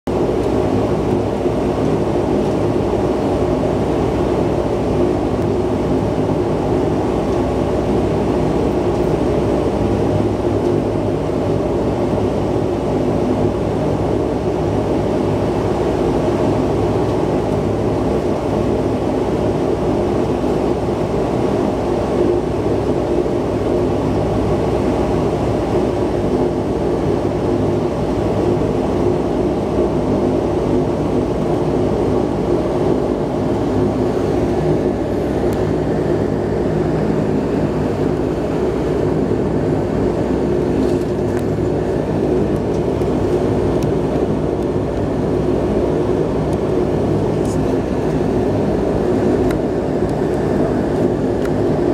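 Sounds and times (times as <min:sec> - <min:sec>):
turboprop engines droning: 0:00.1 - 0:51.9.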